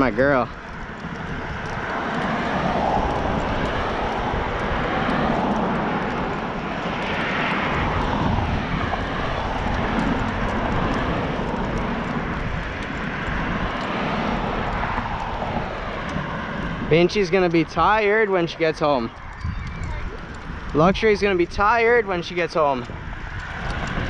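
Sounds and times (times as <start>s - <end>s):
bike tyres rolling on concrete: 0.0s - 24.0s
wind rushing over microphone: 0.0s - 24.0s.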